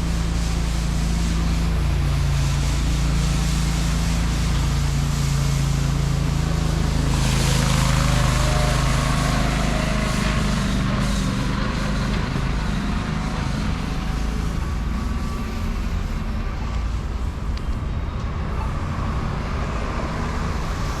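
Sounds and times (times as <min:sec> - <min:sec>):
city traffic noise: 0:00.0 - 0:21.0
heavy vehicle engine humming: 0:00.0 - 0:21.0.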